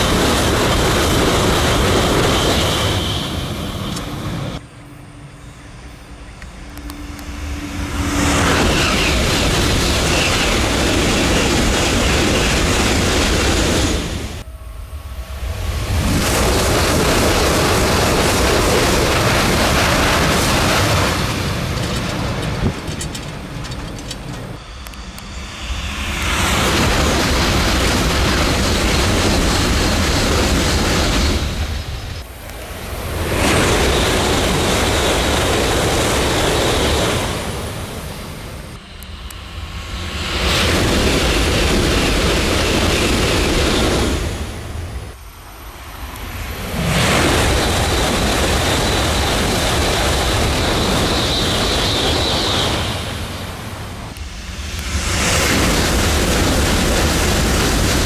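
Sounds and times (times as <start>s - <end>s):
bullet train passing at speed: 0.0s - 58.0s.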